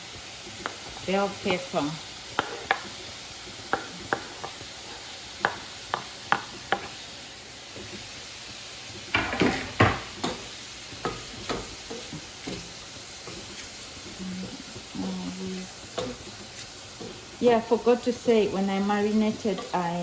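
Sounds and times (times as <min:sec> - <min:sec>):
food sizzling in oil in a wok: 0:00.0 - 0:20.0
utensil scraping against wok: 0:00.6 - 0:07.1, 0:09.2 - 0:20.0.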